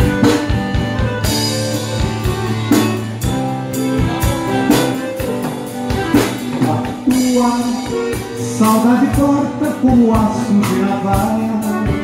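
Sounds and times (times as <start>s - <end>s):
drum kit beat: 0.0s - 12.0s
piano accordion melody: 0.0s - 12.0s.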